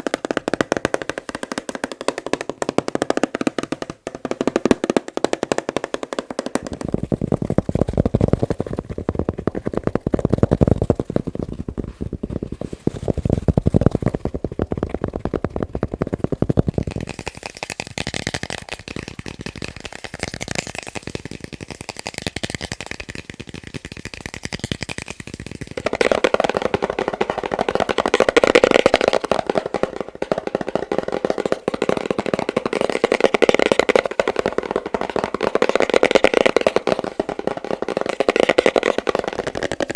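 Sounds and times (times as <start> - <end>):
fast tapping on objects: 0.0 - 39.9.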